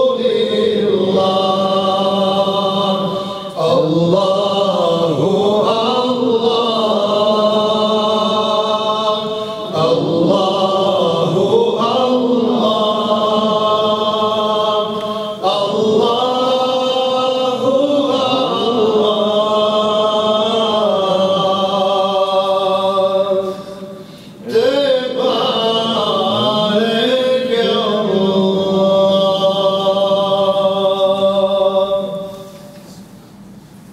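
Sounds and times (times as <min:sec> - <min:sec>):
man singing a hymn unaccompanied: 0:00.0 - 0:32.6.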